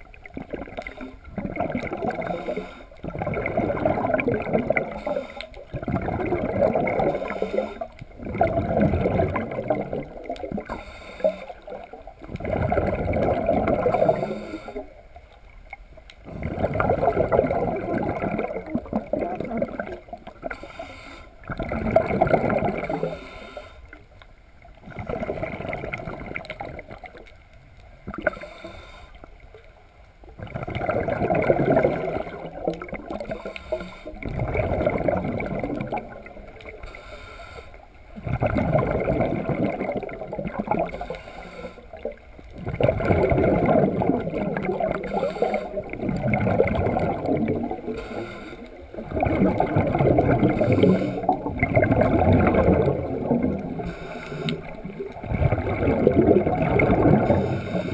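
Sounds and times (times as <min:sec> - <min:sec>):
underwater gurgling and bubbling: 0:00.0 - 0:57.9.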